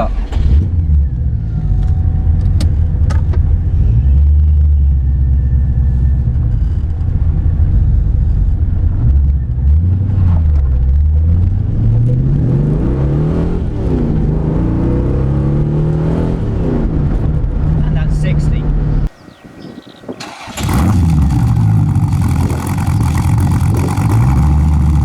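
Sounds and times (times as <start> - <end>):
car engine accelerating: 0.0 - 17.8, 18.8 - 25.0.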